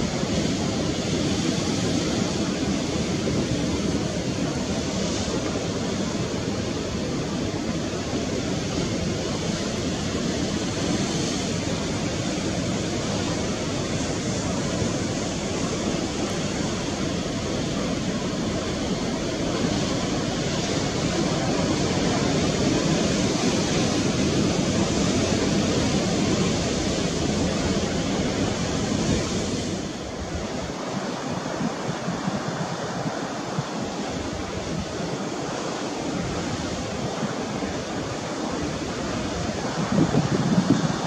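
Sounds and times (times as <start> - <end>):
wind and sea rushing: 0.0 - 41.0.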